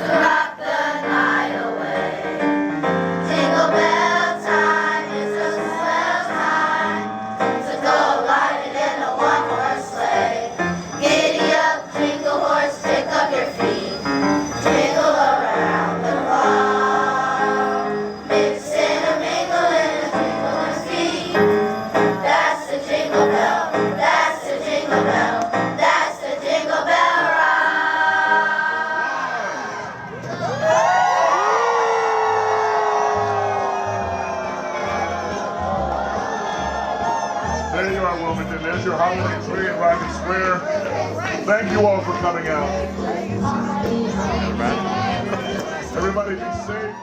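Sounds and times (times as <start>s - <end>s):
children's choir singing: 0.0s - 30.1s, 33.2s - 46.0s
musical accompaniment: 0.0s - 31.0s, 32.5s - 47.0s.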